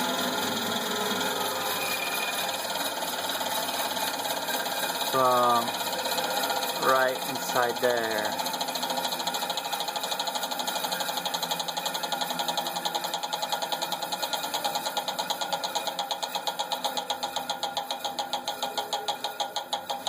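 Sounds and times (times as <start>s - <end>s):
rapid regular clicking: 2.4s - 20.0s.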